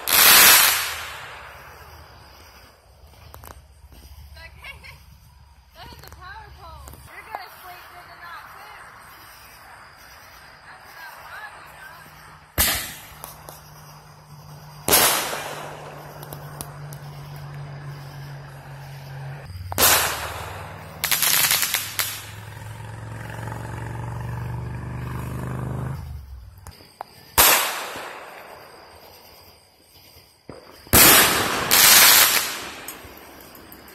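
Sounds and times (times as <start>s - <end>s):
fireworks bangs: 0.0s - 29.4s, 30.4s - 33.9s.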